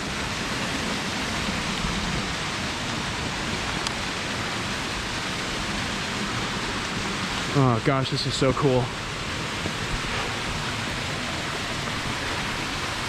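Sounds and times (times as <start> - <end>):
stream rushing over rock: 0.0 - 13.0.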